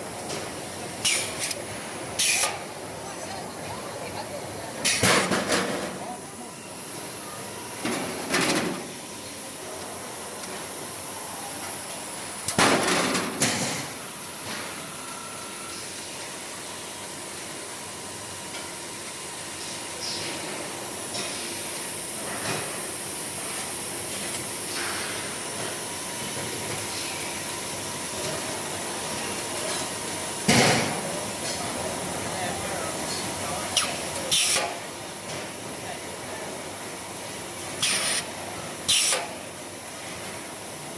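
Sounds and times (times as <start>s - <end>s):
machine hiss and hum: 0.0s - 40.9s.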